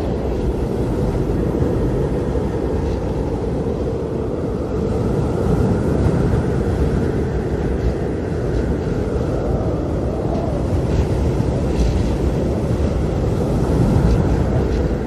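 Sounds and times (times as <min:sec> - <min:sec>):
airliner cabin engine and airflow rush: 0:00.0 - 0:15.0.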